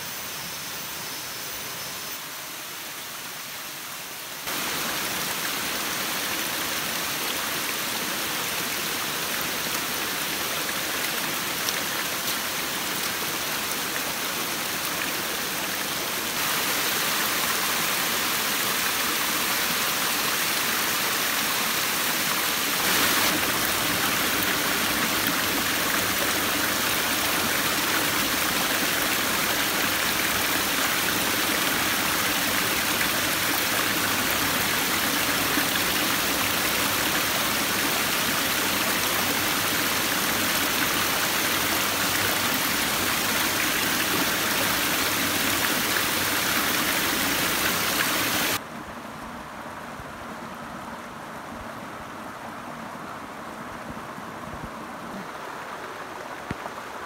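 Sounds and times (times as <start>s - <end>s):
rushing water: 0.9s - 57.0s.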